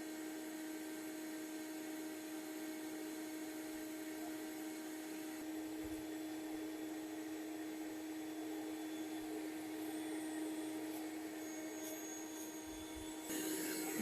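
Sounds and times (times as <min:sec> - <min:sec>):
vacuum humming: 0:00.0 - 0:14.0.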